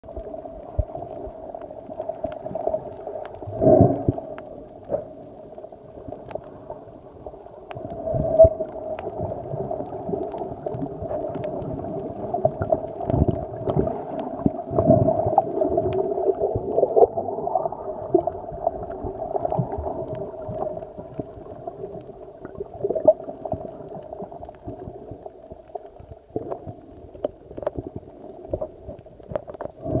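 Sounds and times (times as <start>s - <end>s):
gurgling water: 0.0s - 30.0s.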